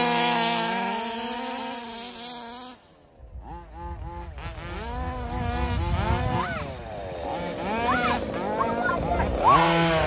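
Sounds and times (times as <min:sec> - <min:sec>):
small two-stroke engines revving: 0:00.0 - 0:10.0.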